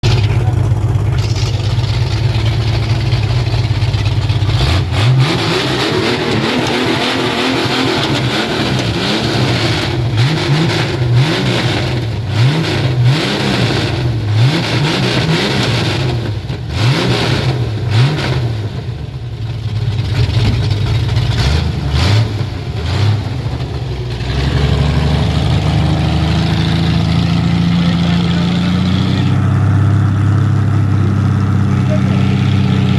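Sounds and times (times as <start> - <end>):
vehicle engine idling and revving: 0.0 - 32.9.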